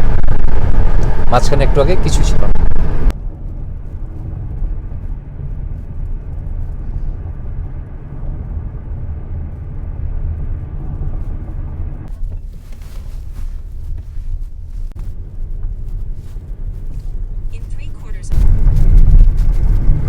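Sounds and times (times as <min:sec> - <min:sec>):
car road rumble inside cabin: 0:00.0 - 0:20.0.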